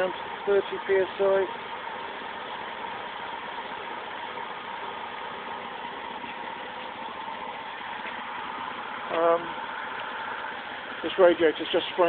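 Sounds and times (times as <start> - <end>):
car engine idling: 0.0 - 12.0
steady whine: 0.0 - 12.0.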